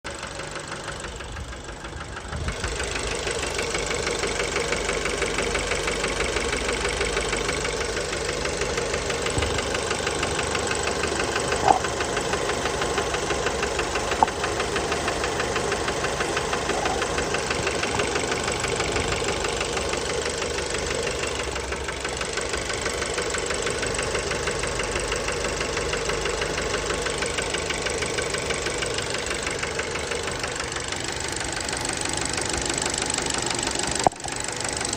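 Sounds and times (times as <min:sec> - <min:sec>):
car engine knocking: 0:00.1 - 0:34.9.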